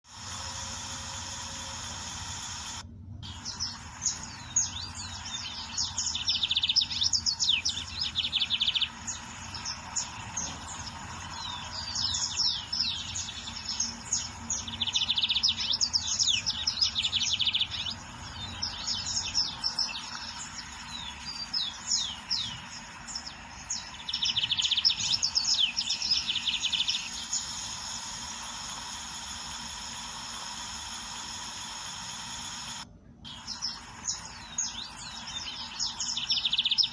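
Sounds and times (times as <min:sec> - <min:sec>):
steady low hum: 0:00.0 - 0:36.9
bird singing trills: 0:00.2 - 0:36.9.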